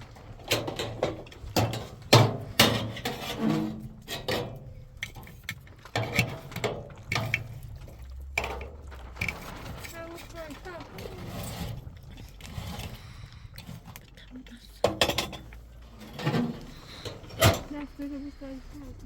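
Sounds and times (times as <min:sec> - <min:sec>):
hard objects knocking and clattering: 0:00.0 - 0:17.9.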